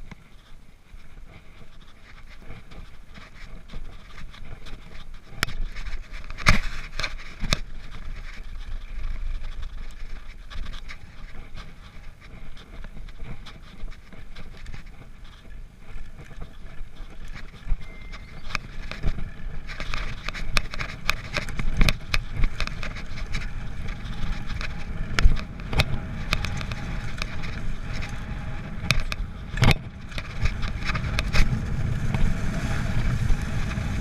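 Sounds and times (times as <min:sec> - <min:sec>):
bike tyres and frame rattling: 0:00.0 - 0:34.0.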